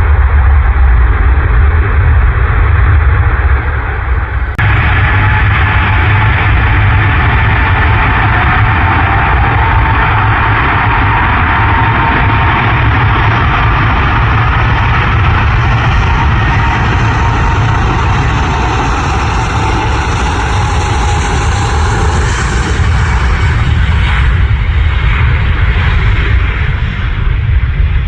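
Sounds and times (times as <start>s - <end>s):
high whine falling in pitch: 0.0s - 25.7s
aircraft engines running: 0.0s - 28.0s.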